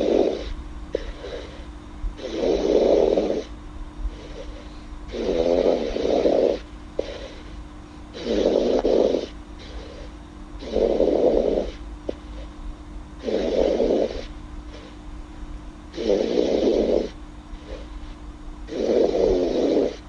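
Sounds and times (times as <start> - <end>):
girl snoring: 0.0 - 3.5, 4.1 - 12.5, 13.2 - 15.0, 15.9 - 20.0.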